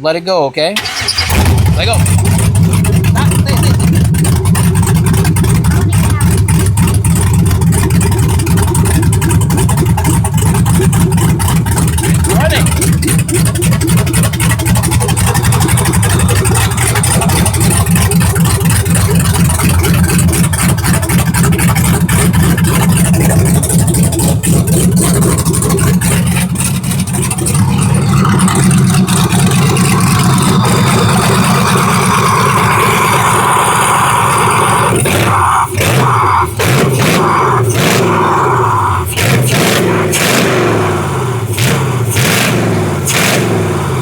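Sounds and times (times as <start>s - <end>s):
loud engine running without exhaust: 0.8s - 44.0s.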